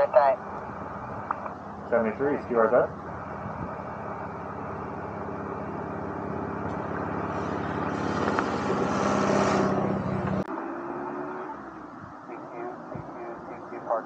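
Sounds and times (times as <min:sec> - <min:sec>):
vehicle engine running: 0:00.0 - 0:10.5, 0:11.4 - 0:14.0
rushing noise: 0:00.3 - 0:13.3.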